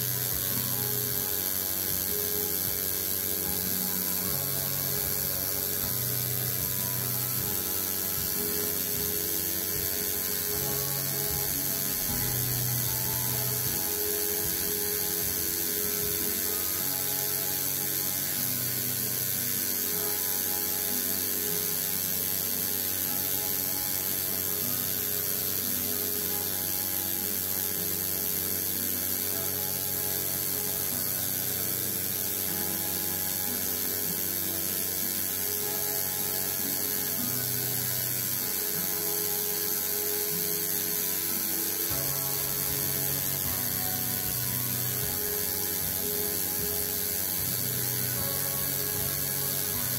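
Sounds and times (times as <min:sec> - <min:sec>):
tattoo machine buzzing: 0:00.0 - 0:49.9.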